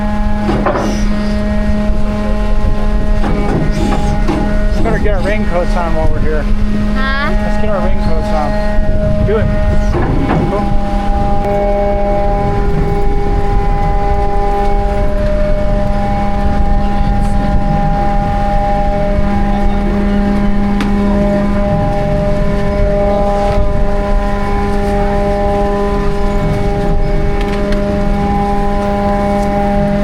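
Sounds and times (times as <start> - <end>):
ferry engine drone: 0.0 - 30.0.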